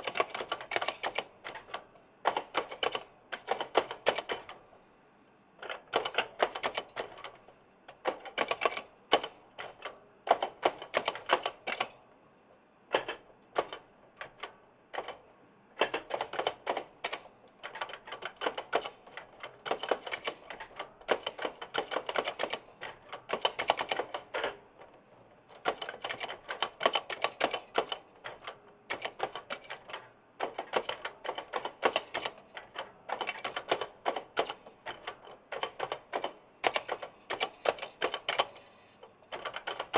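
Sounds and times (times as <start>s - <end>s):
mechanical keyboard clicks: 0.0s - 4.6s, 5.6s - 12.0s, 15.8s - 24.6s, 25.6s - 38.7s, 39.3s - 39.9s.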